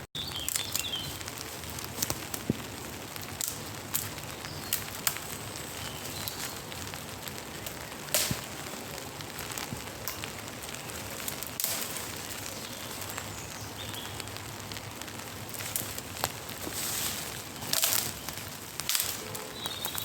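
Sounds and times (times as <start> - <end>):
rain pattering: 0.0 - 20.0
loud crack: 1.2 - 13.2, 14.0 - 20.0.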